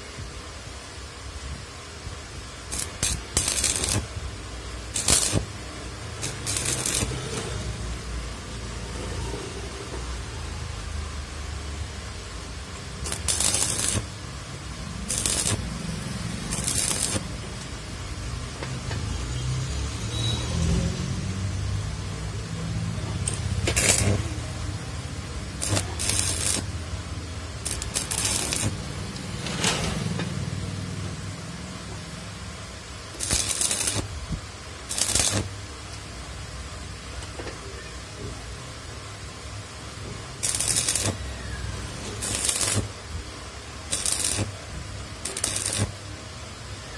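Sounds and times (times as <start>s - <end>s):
steady low hum: 0.0s - 19.3s, 21.2s - 37.4s, 38.3s - 46.9s
crackling welding arc: 1.9s - 19.3s, 21.0s - 37.4s, 39.2s - 46.9s.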